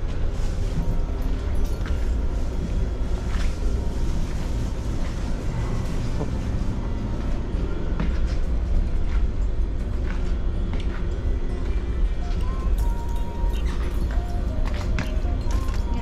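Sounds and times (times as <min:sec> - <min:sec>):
ship engine low rumble: 0:00.0 - 0:16.0.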